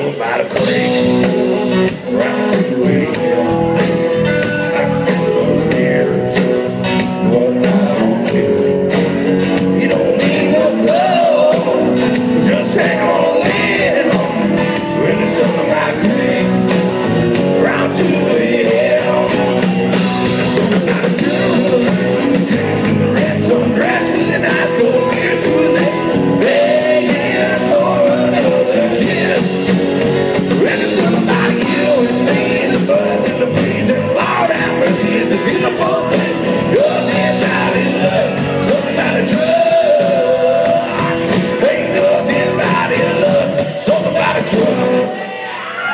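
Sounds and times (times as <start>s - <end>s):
live band playing: 0.0s - 45.9s
person singing lead vocal: 0.0s - 45.9s.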